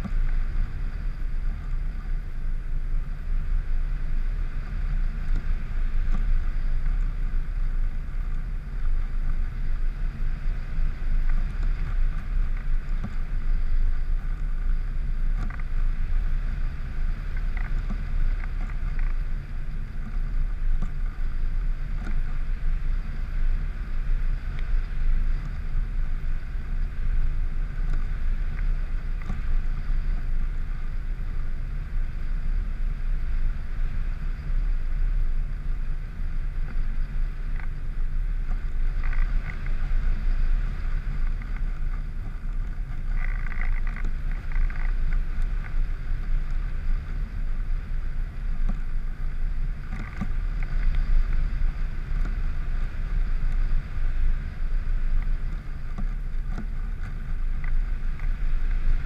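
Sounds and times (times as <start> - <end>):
mid-pitched drone: 0.0 - 59.0
wind rush on microphone: 0.0 - 59.0.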